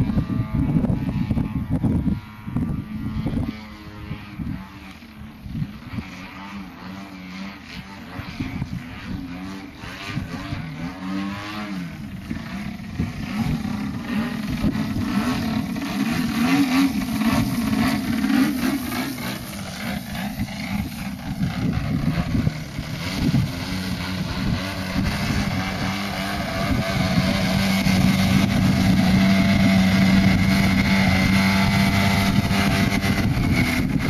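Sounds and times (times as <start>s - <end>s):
model aeroplane engine: 0.0s - 34.0s.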